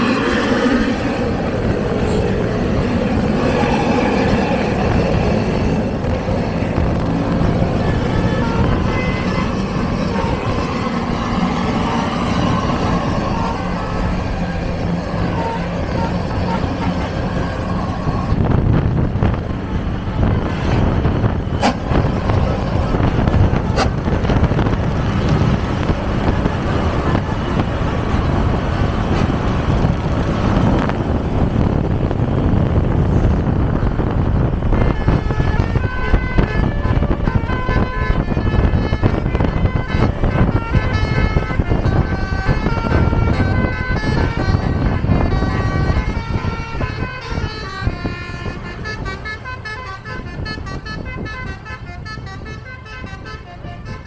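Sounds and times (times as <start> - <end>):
bus horn playing a tune: 0.0 - 54.0
low traffic rumble: 0.0 - 54.0
road and wind noise: 0.0 - 54.0.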